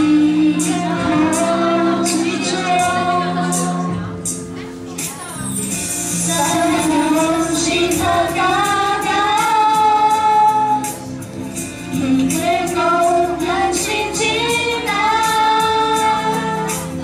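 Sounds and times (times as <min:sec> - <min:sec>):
women singing into microphones: 0:00.0 - 0:04.2, 0:06.2 - 0:11.1, 0:11.9 - 0:17.0
recorded accompaniment with beat: 0:00.0 - 0:17.0.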